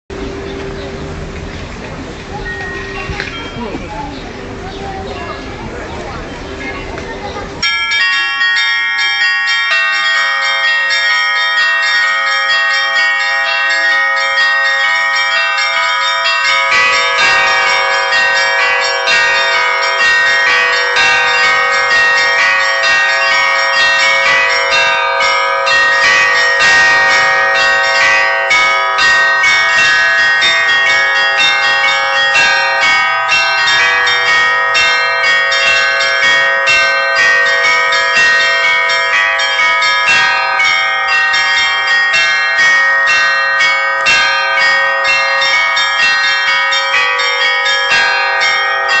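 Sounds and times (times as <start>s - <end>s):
church bells ringing a peal: 0.1s - 49.0s
lower bell ringing: 2.3s - 5.4s, 7.6s - 49.0s.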